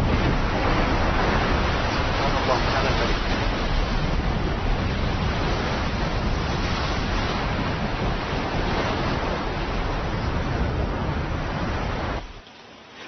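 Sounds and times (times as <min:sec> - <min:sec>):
volcanic eruption rumble: 0:00.0 - 0:12.4.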